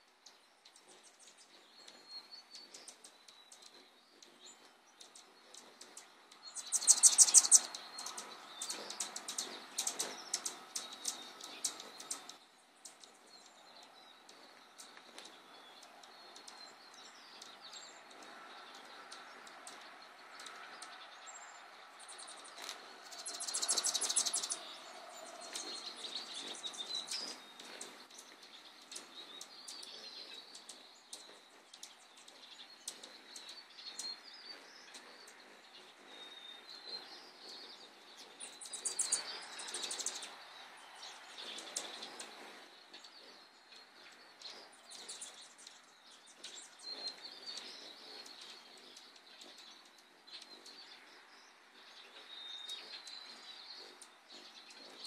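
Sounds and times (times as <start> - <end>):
hummingbirds chipping and chattering: 0.0 - 55.0
rapid buzzy hummingbird chatter: 0.7 - 55.0.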